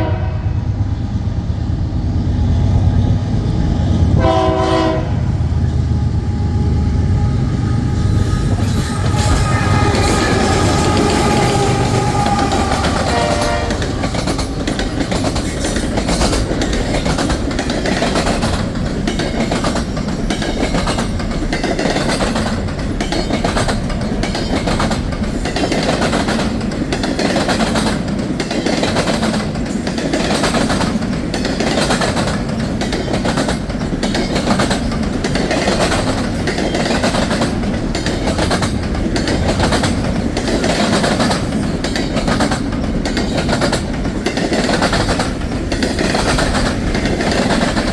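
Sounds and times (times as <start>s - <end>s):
freight train rolling past: 0.0s - 47.9s
wheels clicking over rail joints: 8.4s - 47.9s.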